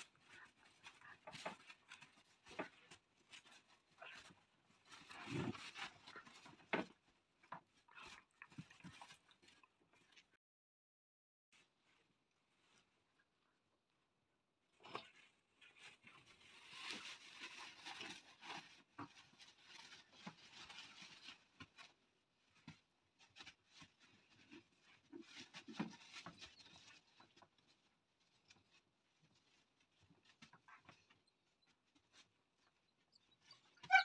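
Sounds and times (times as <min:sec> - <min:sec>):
puppies scuffling and rustling: 0:00.0 - 0:10.3, 0:11.6 - 0:13.4, 0:14.6 - 0:34.0.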